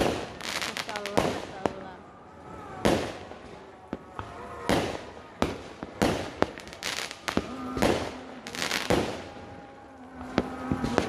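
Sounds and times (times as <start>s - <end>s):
fireworks banging: 0.0s - 2.0s, 2.8s - 9.6s, 10.2s - 11.0s
fireworks crackling: 0.0s - 2.0s, 2.6s - 11.0s.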